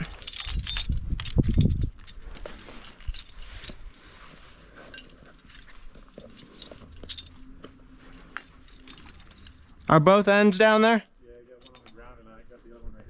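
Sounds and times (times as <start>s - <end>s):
metal carabiners clinking: 0.0s - 12.3s.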